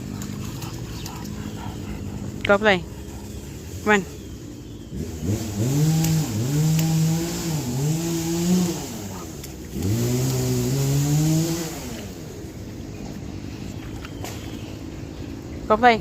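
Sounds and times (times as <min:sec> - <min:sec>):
vehicle engine revving: 0:00.0 - 0:15.4.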